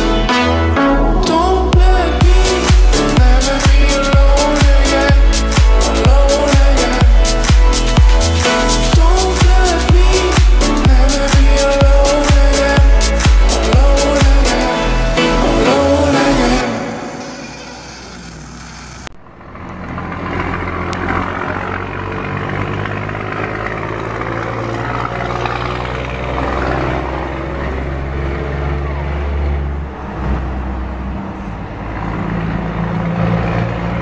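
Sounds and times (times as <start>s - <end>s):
truck diesel engine running: 0.0s - 34.0s.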